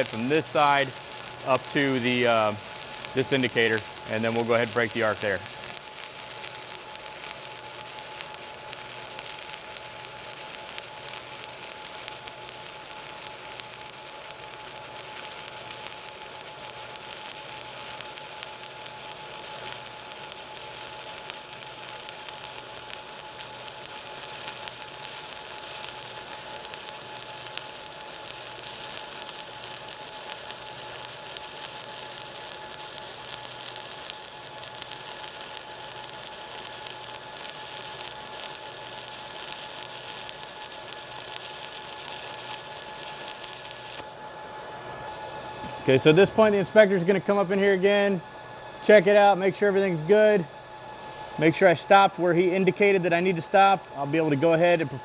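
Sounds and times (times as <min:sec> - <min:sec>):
welding arc crackling: 0:00.0 - 0:55.0.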